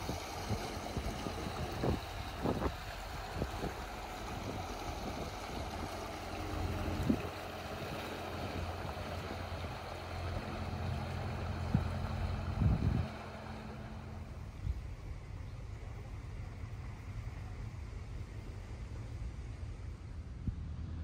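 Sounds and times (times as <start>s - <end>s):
boat engine throbbing: 0.0s - 21.0s.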